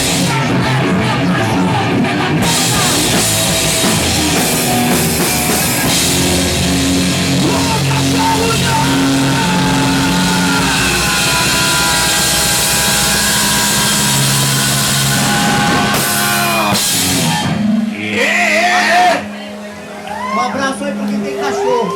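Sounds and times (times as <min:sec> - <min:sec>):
drum kit: 0:00.0 - 0:19.2
distorted electric guitar: 0:00.0 - 0:21.9.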